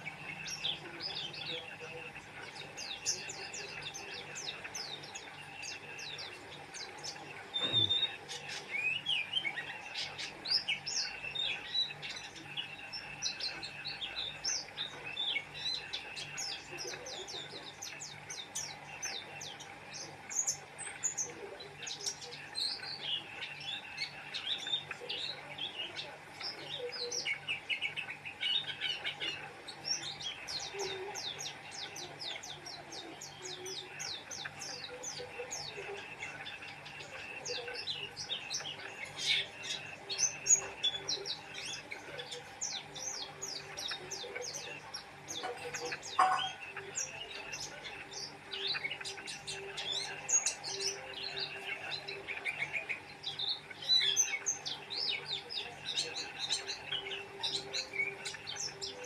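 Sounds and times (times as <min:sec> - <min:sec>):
bird twittering: 0:00.0 - 0:59.0
faint background hum: 0:00.0 - 0:59.0.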